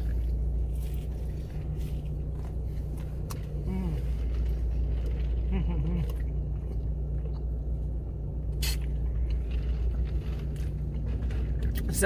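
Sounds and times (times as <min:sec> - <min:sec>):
person chewing: 0:00.0 - 0:11.9
low hum inside car: 0:00.0 - 0:12.0.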